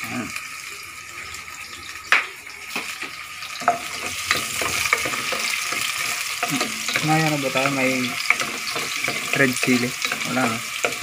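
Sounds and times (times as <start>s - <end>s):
garlic and onion sizzling in oil: 0.0s - 11.0s.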